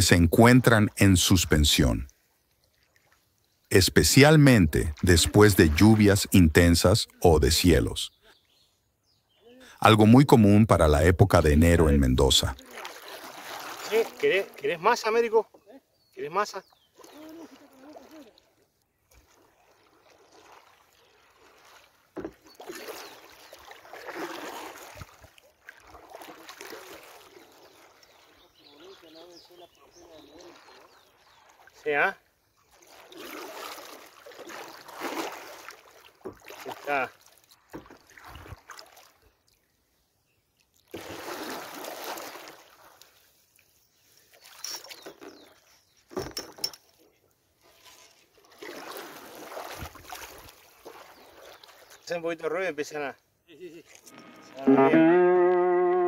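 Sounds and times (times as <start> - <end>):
paddle splashing and dripping: 0.4 - 8.5, 11.4 - 15.2, 16.1 - 56.0.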